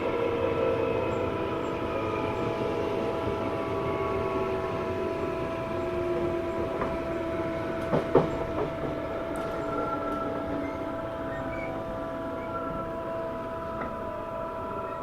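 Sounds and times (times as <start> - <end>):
electric train motor whine: 0.0 - 15.0
rail noise: 0.0 - 15.0.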